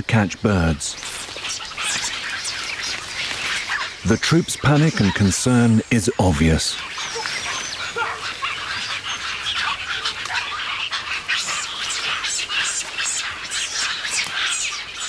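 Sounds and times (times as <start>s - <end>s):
monkeys giving high-pitched calls: 0.8s - 15.0s.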